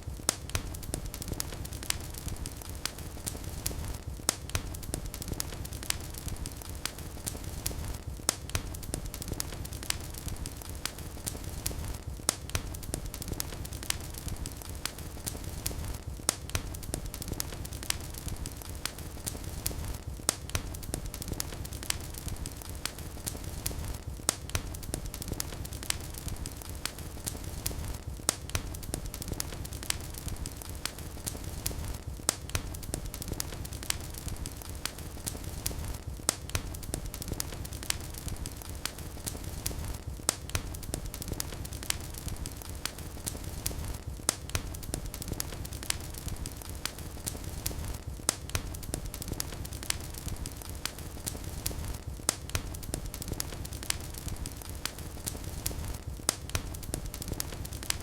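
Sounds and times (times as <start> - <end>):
fire crackling and popping: 0.0 - 58.0
fireplace fire burning: 0.0 - 58.0.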